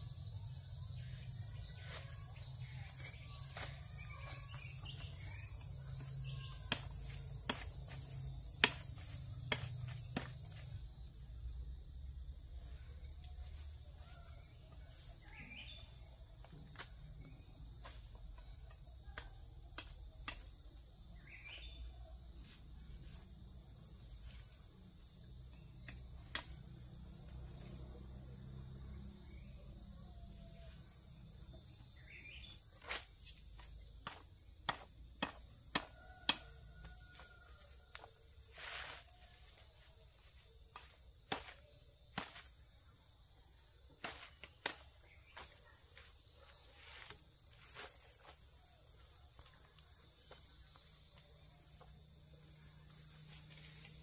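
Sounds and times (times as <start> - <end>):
crickets chorus: 0.0 - 54.0.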